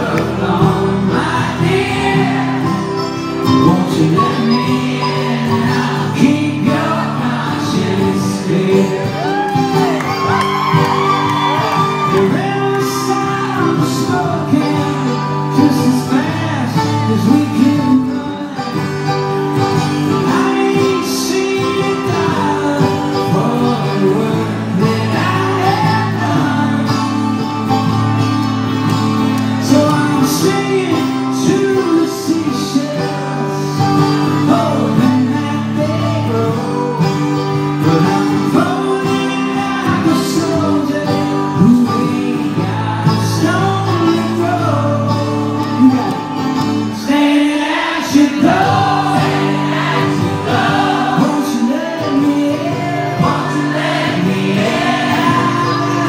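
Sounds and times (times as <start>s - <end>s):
man singing: 0.0s - 28.0s, 29.4s - 56.0s
plucked string instrument: 0.0s - 56.0s
strummed acoustic guitar: 0.0s - 56.0s.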